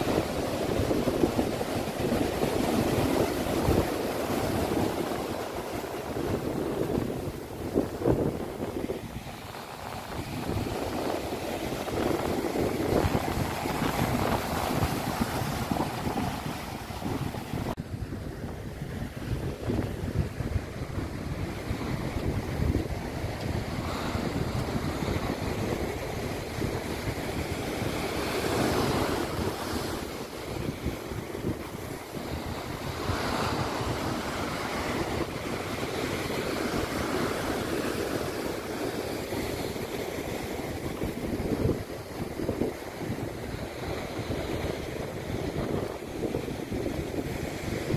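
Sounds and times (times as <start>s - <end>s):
gusty wind buffeting microphone: 0.0s - 47.9s
heavy surf breaking: 0.0s - 47.9s.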